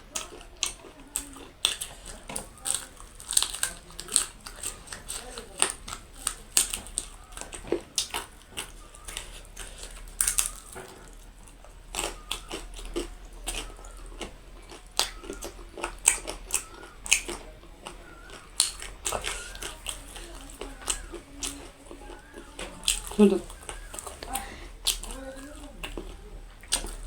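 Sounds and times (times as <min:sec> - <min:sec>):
person chewing crunchy food: 0:00.0 - 0:27.0.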